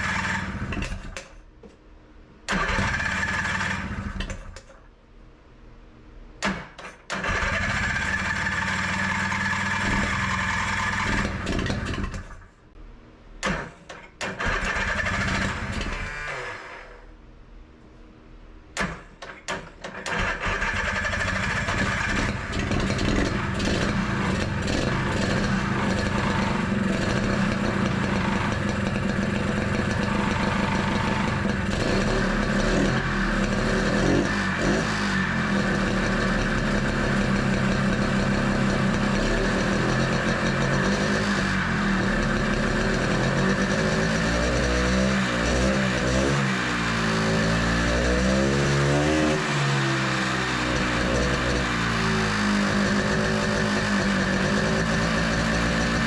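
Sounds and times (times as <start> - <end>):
engine popping while starting: 0.0 - 1.3, 2.5 - 4.8, 6.4 - 12.5, 13.4 - 16.8, 18.8 - 56.0
two-stroke engine revving: 0.0 - 1.3, 2.5 - 4.6, 7.1 - 12.4, 14.2 - 17.0, 20.0 - 56.0.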